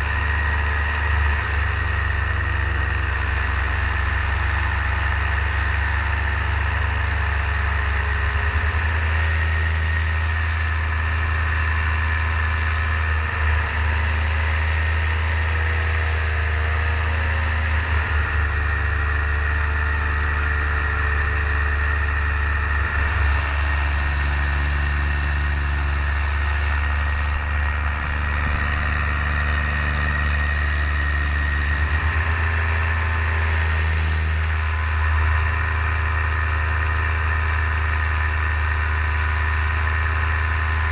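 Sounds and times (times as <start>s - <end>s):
paramotor engine drone: 0.0s - 40.9s
propeller whine: 7.3s - 40.9s.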